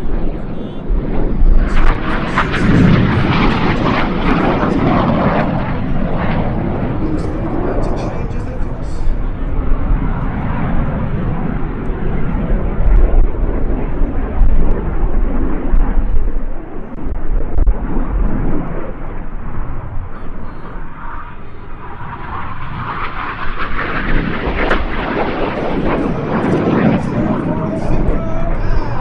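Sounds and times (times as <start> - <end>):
jet flying past: 0.0 - 29.0.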